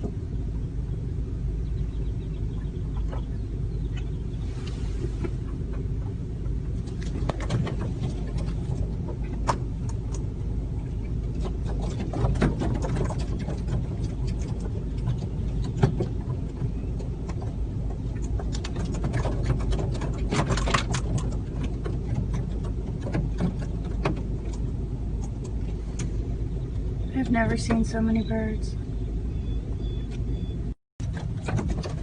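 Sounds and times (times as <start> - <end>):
car rumble from inside cabin: 0.0 - 32.0
flock of birds clicking and chirping: 1.6 - 32.0.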